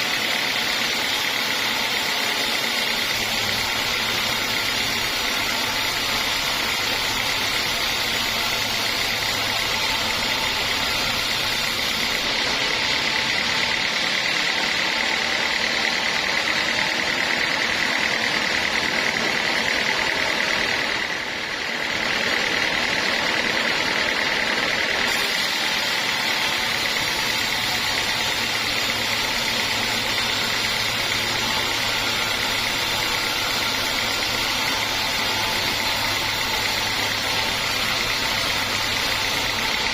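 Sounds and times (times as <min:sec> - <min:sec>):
band sawmill whining: 0:00.0 - 0:39.9.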